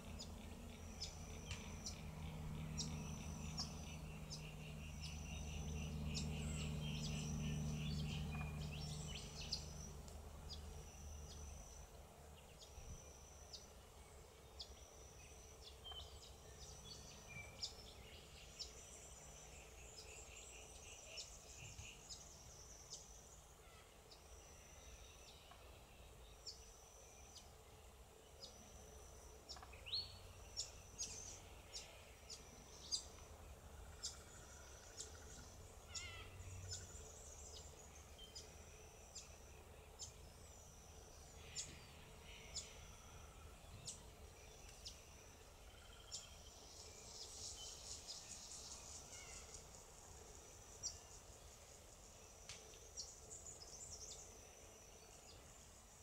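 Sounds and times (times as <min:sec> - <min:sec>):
small birds calling: 0:00.0 - 0:27.5, 0:29.4 - 0:55.8.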